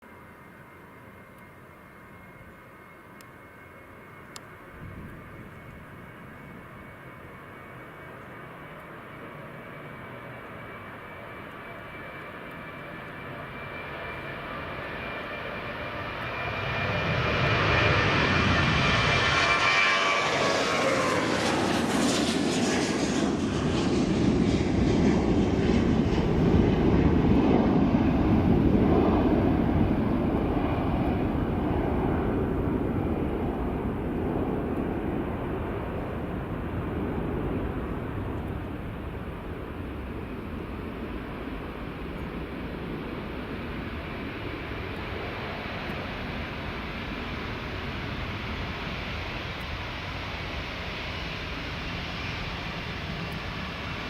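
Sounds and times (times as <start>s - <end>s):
low aircraft engine rumble: 0.0s - 54.0s
aircraft engine whine passing: 0.1s - 54.0s.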